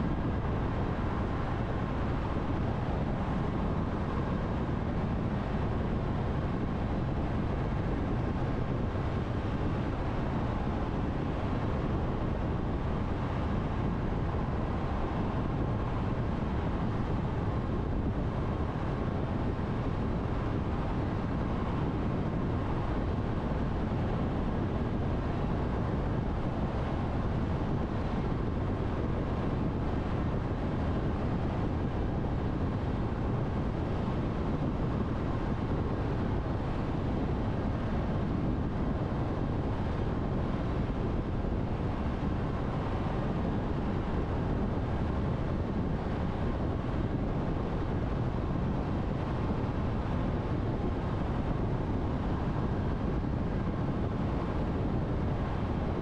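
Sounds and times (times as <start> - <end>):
car road noise in tunnel: 0.0 - 56.0.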